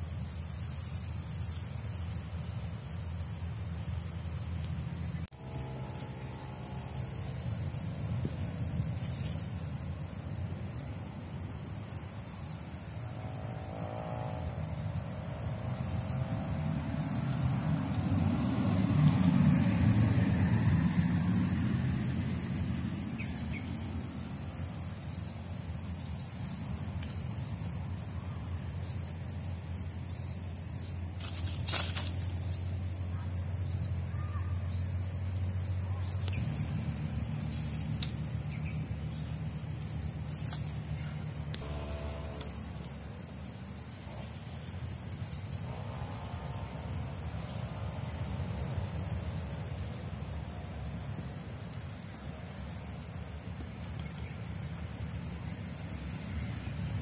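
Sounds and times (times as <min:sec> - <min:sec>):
high-pitched insect drone: 0:00.0 - 0:57.0
low engine hum: 0:00.0 - 0:57.0.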